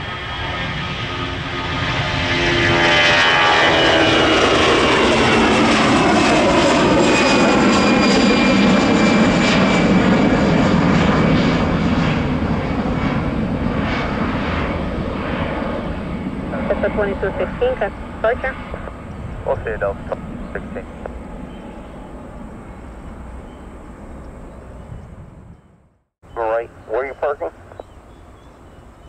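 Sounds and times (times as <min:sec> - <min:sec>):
jet airliner taking off: 0:00.0 - 0:25.7, 0:26.4 - 0:29.0.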